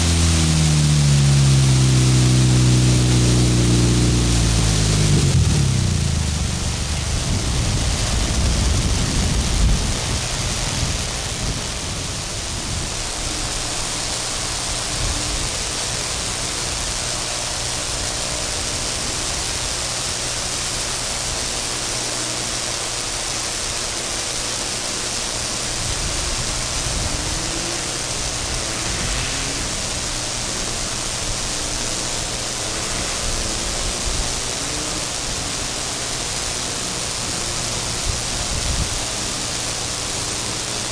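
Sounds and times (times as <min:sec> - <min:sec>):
distant buggy motor droning: 0:00.0 - 0:40.9
steady hiss: 0:00.0 - 0:40.9.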